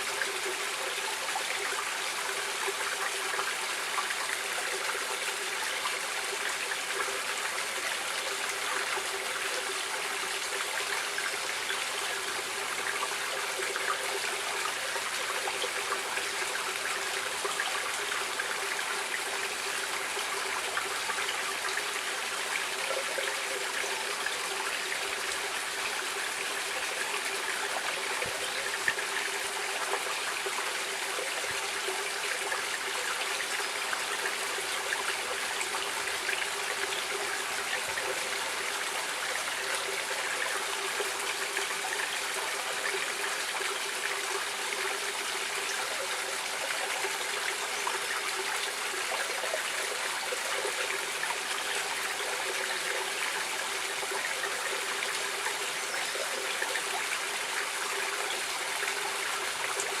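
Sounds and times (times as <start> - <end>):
stream water flowing: 0.0 - 60.0.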